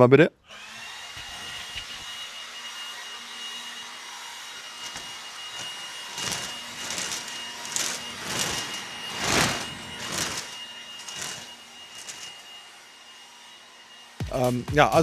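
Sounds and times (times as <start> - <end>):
blower motor whining: 0.5 - 14.2.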